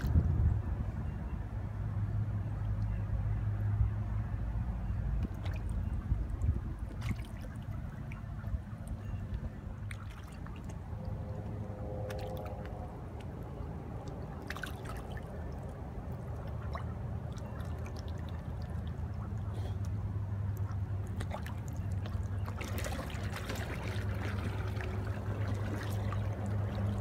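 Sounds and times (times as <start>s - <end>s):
faint humming tone: 0.0s - 27.0s
steady low rumble: 0.0s - 27.0s
water dripping and splashing: 5.2s - 27.0s.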